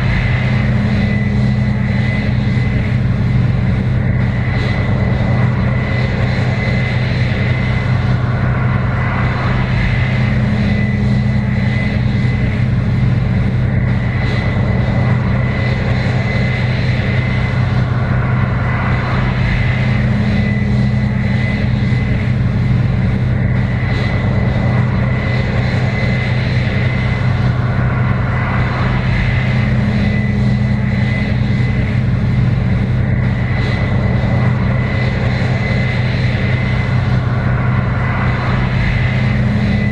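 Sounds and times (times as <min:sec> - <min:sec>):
combine harvester diesel engine drone: 0:00.0 - 0:39.9
thin steady whine: 0:00.0 - 0:39.9.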